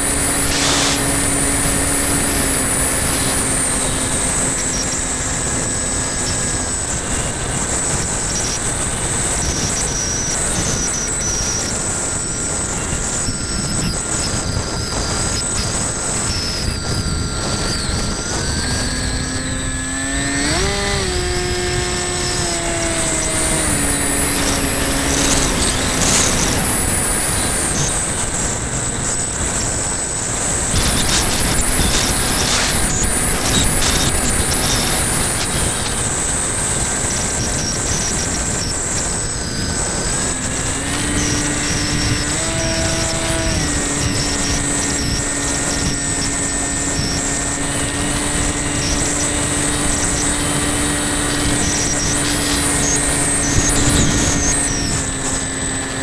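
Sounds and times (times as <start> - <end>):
electric motor and propeller hum: 0.0 - 56.0
wind rush: 0.0 - 56.0.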